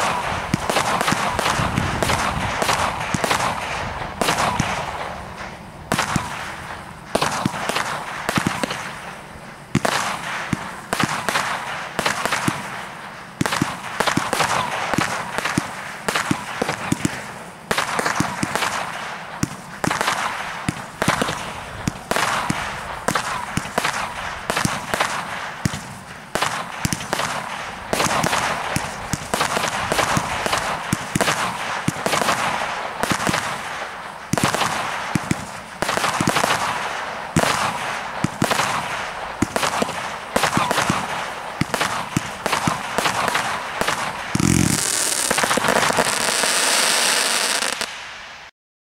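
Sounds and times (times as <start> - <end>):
firework barrage bangs and hiss: 0.0 - 48.5.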